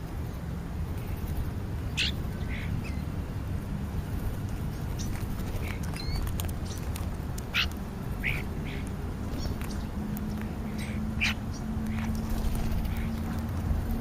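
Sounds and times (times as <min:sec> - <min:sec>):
birds giving harsh calls: 0:01.0 - 0:03.3, 0:04.0 - 0:14.0.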